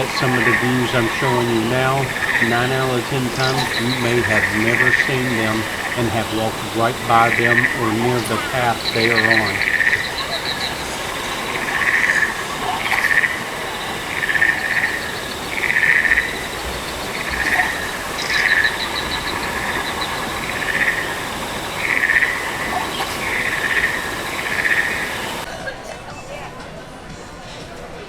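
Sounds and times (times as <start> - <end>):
frog-like croaking calls: 0.0 - 25.5.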